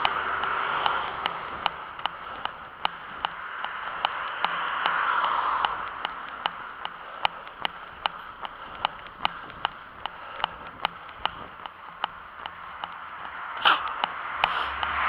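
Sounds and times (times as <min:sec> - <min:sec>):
running footsteps on pavement: 0:00.0 - 0:15.0.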